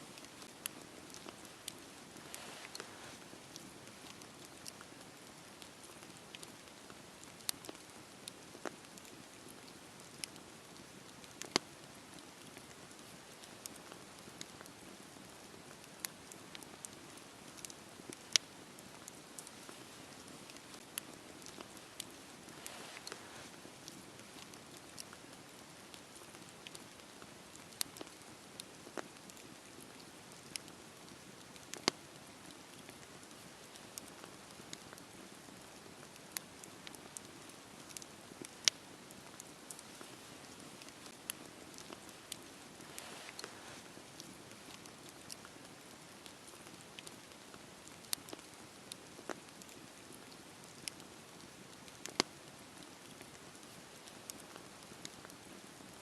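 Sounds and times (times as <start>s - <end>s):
campfire flames hissing: 0.0s - 56.0s
fire crackling and popping: 0.0s - 56.0s.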